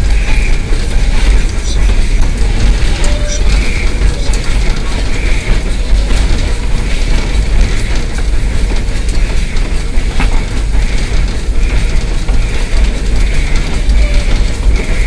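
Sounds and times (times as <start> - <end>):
steam locomotive rumble and clatter: 0.0 - 15.0.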